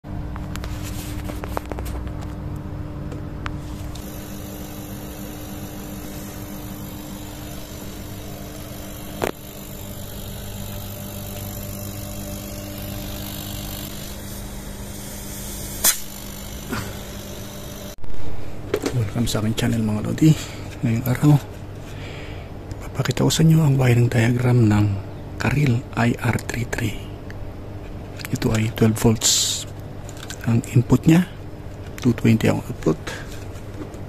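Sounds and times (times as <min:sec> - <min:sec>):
compressor and fan humming: 0:00.0 - 0:34.0.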